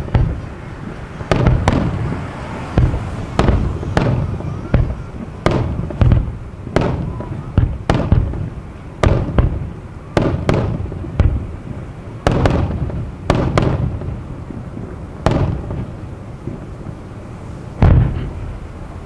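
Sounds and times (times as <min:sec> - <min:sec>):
firework shells bursting: 0:00.0 - 0:17.2, 0:17.8 - 0:18.8.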